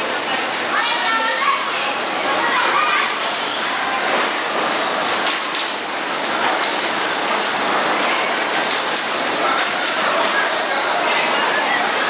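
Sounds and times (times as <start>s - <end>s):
bumper cars hissing and rattling: 0.0s - 12.0s.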